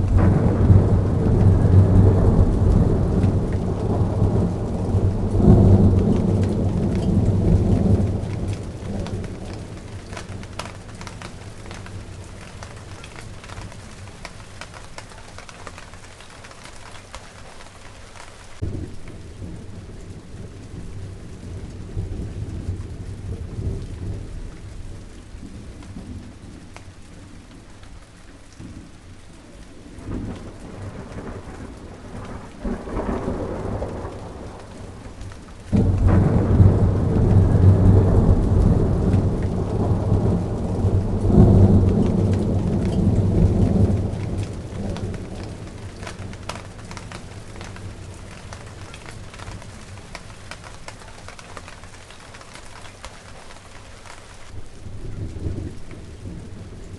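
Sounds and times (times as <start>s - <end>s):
steady rain falling: 0.0s - 56.9s
thunder rumbling and clapping: 0.0s - 56.9s.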